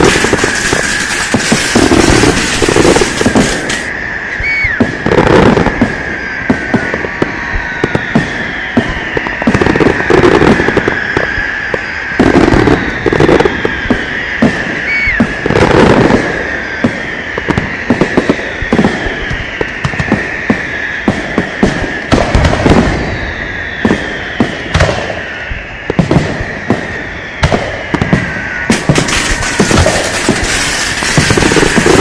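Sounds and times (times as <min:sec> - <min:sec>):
firecrackers crackling: 0:00.0 - 0:32.0
fireworks bangs: 0:00.0 - 0:32.0
high whistle: 0:00.0 - 0:32.0.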